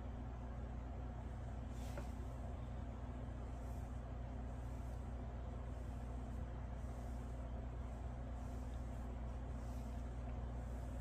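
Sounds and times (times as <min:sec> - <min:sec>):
faint hiss: 0:00.0 - 0:11.0
low hum: 0:00.0 - 0:11.0.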